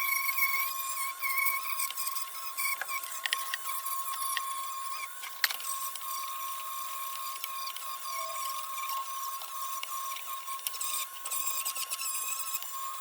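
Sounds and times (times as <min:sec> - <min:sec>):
rotary tool polishing metal: 0:00.0 - 0:13.0.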